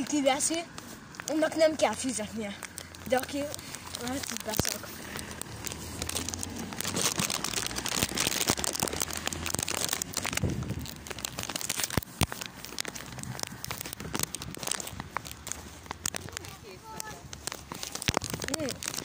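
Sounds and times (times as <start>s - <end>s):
plastic bag crinkling: 2.3s - 19.0s.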